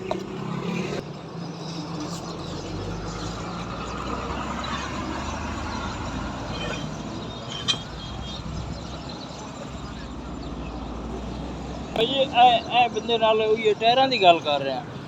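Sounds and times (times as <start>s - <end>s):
vehicle engine rumbling: 0.0s - 14.1s
street noise: 0.0s - 15.0s.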